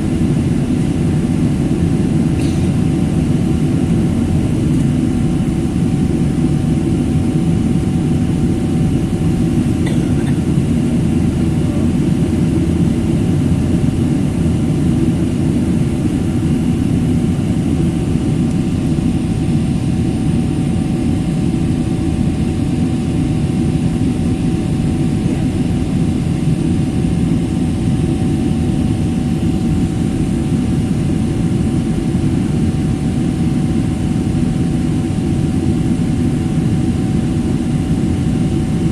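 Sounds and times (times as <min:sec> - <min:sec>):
jet airliner cabin drone: 0:00.0 - 0:38.9.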